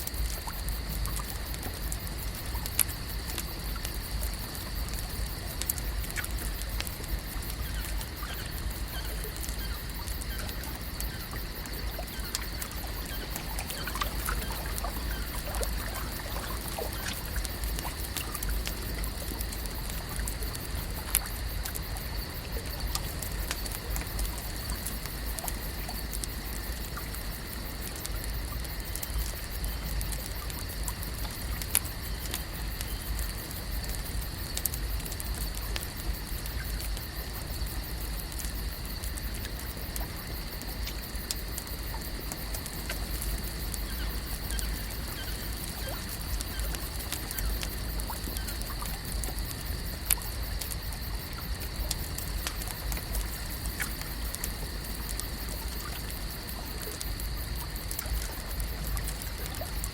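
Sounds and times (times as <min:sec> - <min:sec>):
small ticks and drips: 0:00.0 - 0:59.9
water trickling and lapping: 0:00.0 - 0:59.9.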